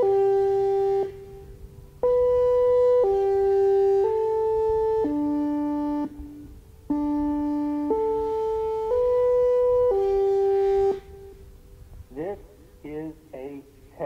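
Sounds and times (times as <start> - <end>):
electronic siren test chimes: 0.0 - 11.8.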